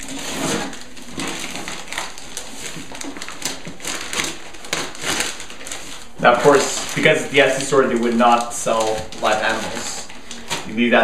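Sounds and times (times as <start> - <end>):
plastic envelope crinkling and tearing: 0.0 - 11.0.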